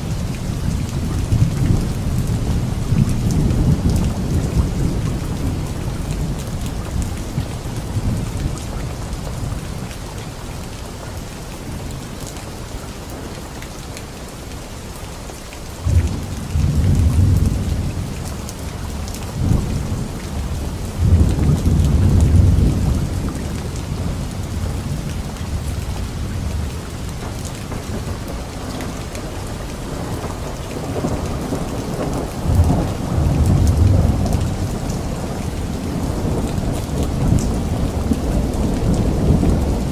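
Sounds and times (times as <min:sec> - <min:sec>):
rain falling: 0:00.0 - 0:39.9
low rolling thunder: 0:00.1 - 0:09.9, 0:15.8 - 0:39.9.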